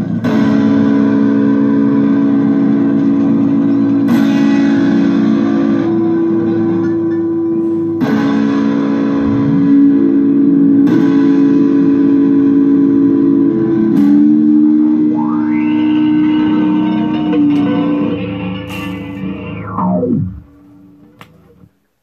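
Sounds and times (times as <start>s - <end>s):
sliding low guitar pitch: 0.0s - 21.1s
electric guitar drone notes: 0.0s - 21.7s.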